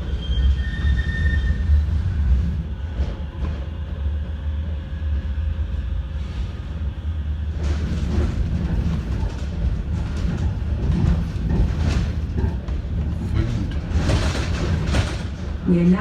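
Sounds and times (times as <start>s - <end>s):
tram wheels rumbling: 0.0s - 16.0s.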